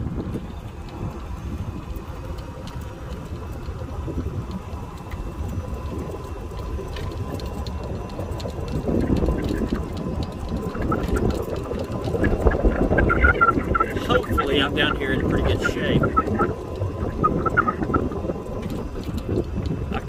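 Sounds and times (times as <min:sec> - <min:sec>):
golf cart rumble: 0:00.0 - 0:20.0
thin steady whine: 0:00.0 - 0:20.0
wind buffeting microphone: 0:00.0 - 0:20.0.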